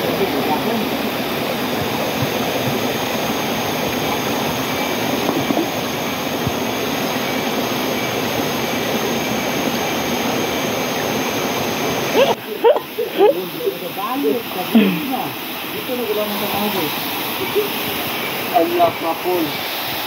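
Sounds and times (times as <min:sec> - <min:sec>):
waterfall and stream rushing: 0:00.0 - 0:20.0.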